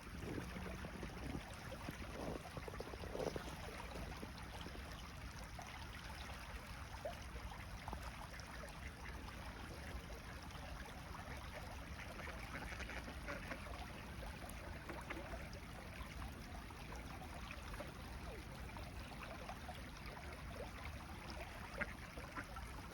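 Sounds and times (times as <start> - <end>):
running water babbling: 0.0 - 22.9
water trickling: 0.0 - 22.9.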